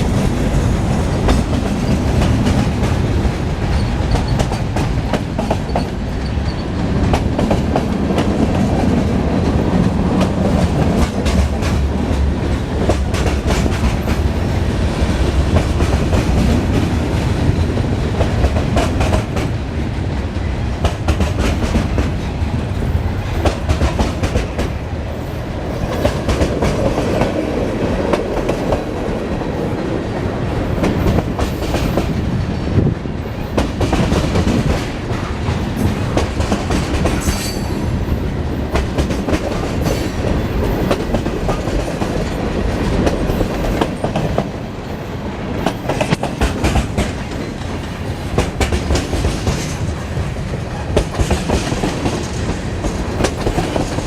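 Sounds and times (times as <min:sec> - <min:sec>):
train wheels clicking over rails: 0:00.0 - 0:54.0.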